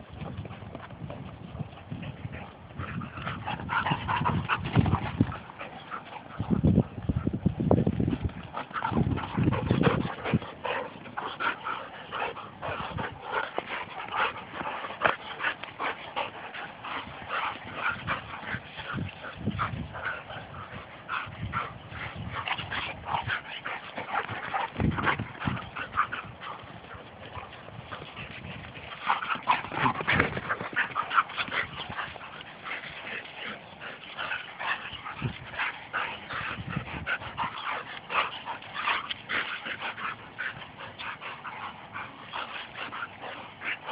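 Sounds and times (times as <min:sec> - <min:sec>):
dogs play-wrestling noises: 0:00.0 - 0:43.9.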